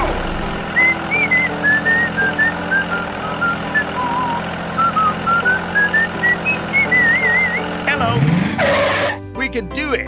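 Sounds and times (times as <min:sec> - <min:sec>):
whistle-like melody: 0:00.0 - 0:09.2
low drone: 0:00.0 - 0:09.3.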